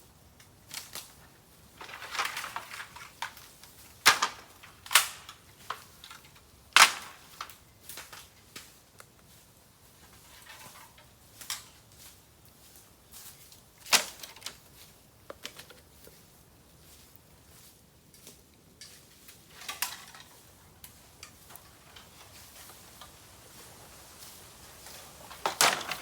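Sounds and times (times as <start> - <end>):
bamboo fire crackling and popping: 0.0 - 26.0.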